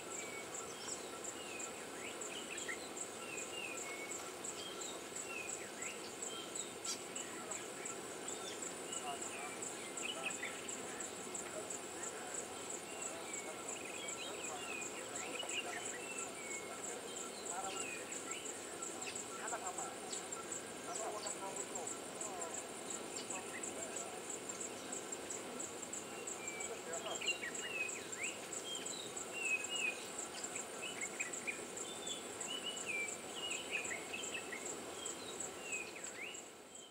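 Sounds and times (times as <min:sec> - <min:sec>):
high insect trill: 0:00.0 - 0:36.9
small birds chirping: 0:00.0 - 0:36.9.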